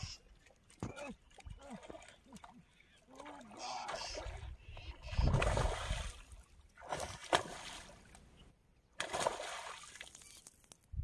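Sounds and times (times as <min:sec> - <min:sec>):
water splashing: 0:00.0 - 0:08.3, 0:09.0 - 0:10.8.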